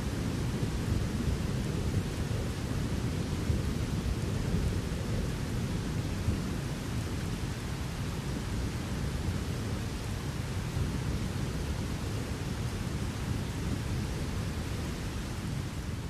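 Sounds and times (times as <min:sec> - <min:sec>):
rain falling: 0:00.1 - 0:16.0
low thunder rumble: 0:00.2 - 0:15.6.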